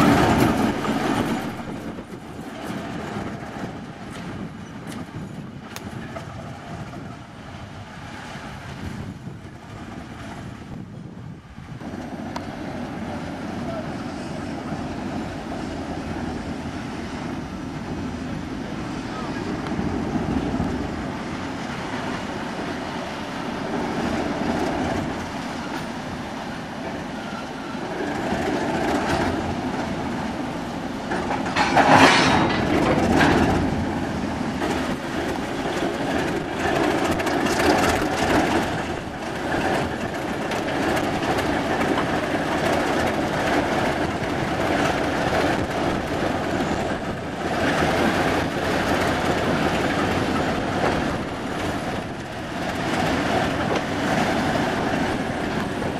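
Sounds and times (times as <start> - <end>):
diesel locomotive engine running: 0.0 - 55.9
wheels rumbling on rails: 0.0 - 55.9.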